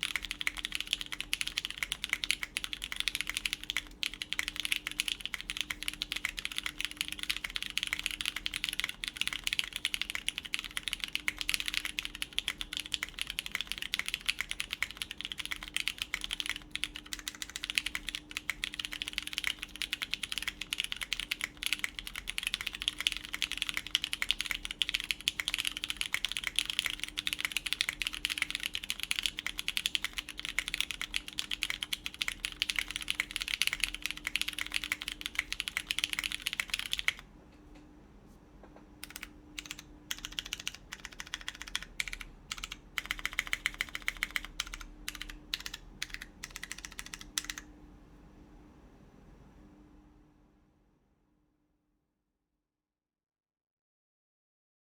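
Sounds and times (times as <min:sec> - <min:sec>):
mechanical keyboard typing: 0:00.0 - 0:37.2, 0:39.0 - 0:47.7.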